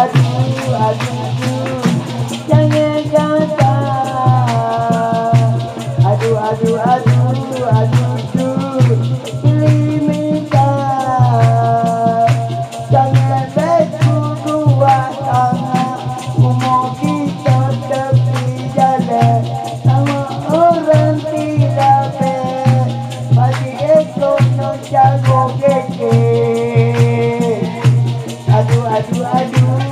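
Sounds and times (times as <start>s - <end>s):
man singing through pa: 0.0s - 29.9s
shaken rattle: 0.0s - 29.9s
steady drum beat: 0.0s - 29.9s.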